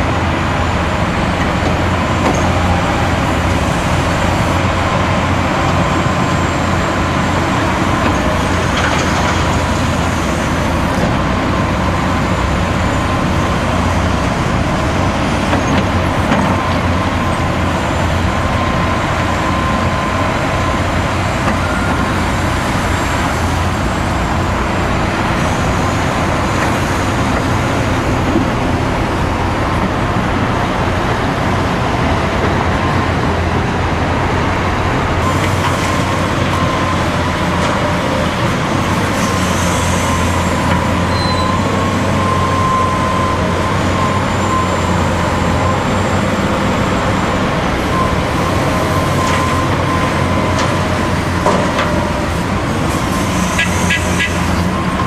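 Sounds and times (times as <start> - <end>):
heavy diesel engines running: 0.0 - 55.0
motorway traffic hum: 0.0 - 55.0.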